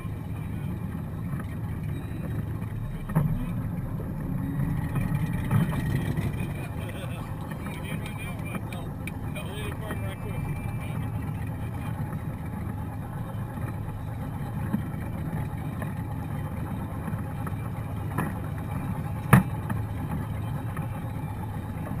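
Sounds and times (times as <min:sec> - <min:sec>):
boat low rumble: 0:00.0 - 0:22.0.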